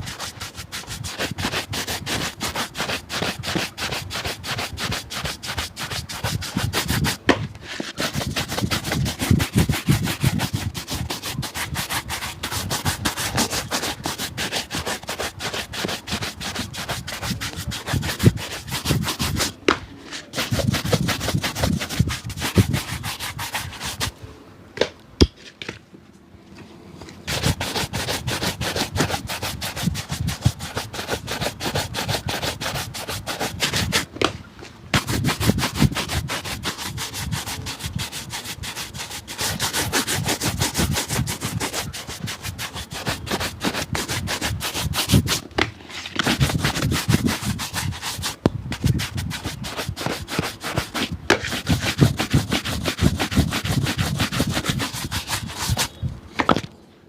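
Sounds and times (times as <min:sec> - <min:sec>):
rubbing strokes on a shoe: 0:00.0 - 0:24.2, 0:27.2 - 0:34.2, 0:34.9 - 0:56.1.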